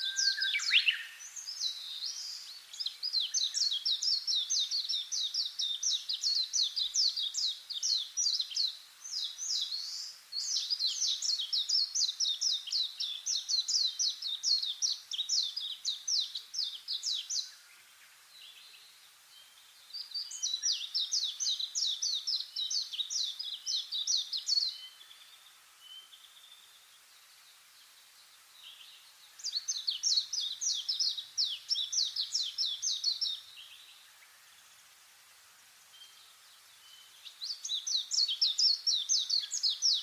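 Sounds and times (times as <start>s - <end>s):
faint outdoor background hiss: 0.0s - 40.0s
songbird singing: 0.0s - 40.0s.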